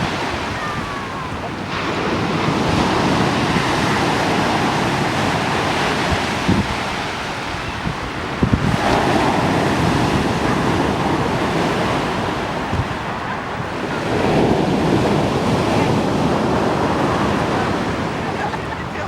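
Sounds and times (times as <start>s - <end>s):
surf breaking on shore: 0.0s - 19.0s
wind buffeting microphone: 0.0s - 19.0s.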